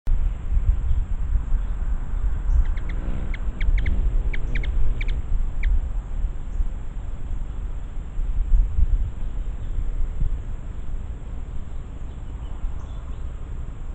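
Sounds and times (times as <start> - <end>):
low rumble: 0.2 - 13.9.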